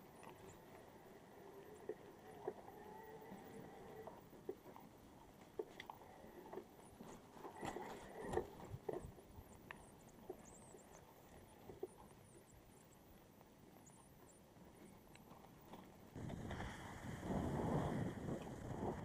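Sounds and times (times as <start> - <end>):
faint clicks and knocks: 0.0 - 16.5
low steady hiss: 0.0 - 19.0.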